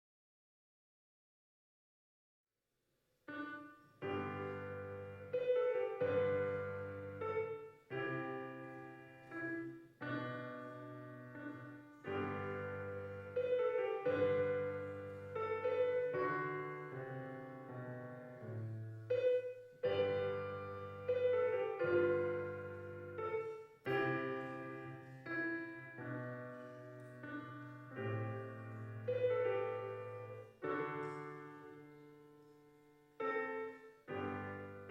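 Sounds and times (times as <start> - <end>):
solo piano chords: 3.2 - 34.9.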